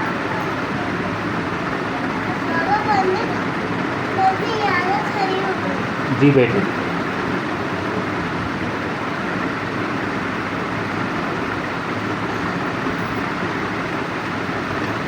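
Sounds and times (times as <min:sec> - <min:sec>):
machine running: 0:00.0 - 0:15.0.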